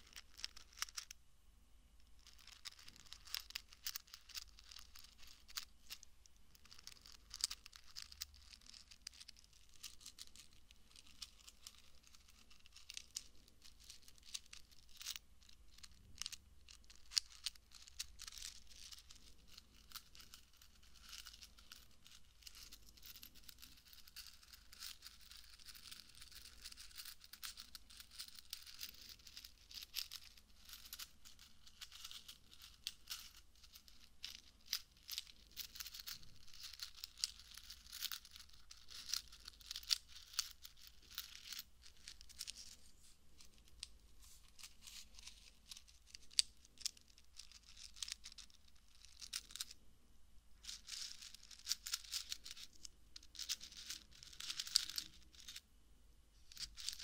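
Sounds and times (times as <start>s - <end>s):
fingertips tapping small metal pieces: 0.0s - 1.2s, 2.2s - 42.8s, 44.6s - 49.7s, 50.6s - 55.6s, 56.5s - 57.0s.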